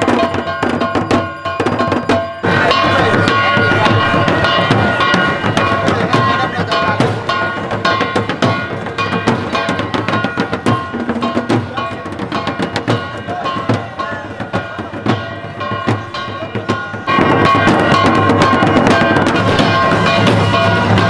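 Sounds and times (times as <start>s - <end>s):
fast hand-drumming: 0.0s - 21.0s
sharp percussive strikes: 0.0s - 21.0s
sustained steady tones: 0.0s - 21.0s.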